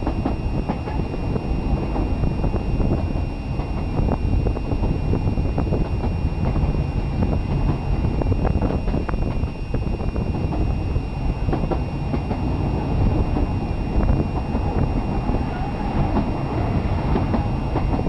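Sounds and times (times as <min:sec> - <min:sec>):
train rumbling along track: 0:00.0 - 0:18.0
wind buffeting microphone: 0:00.0 - 0:18.0.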